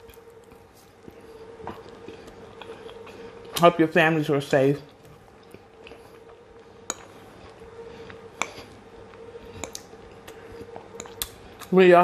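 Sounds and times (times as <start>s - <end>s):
quiet chewing: 0.0s - 3.6s, 4.9s - 11.8s
faint steady hum: 0.0s - 12.0s.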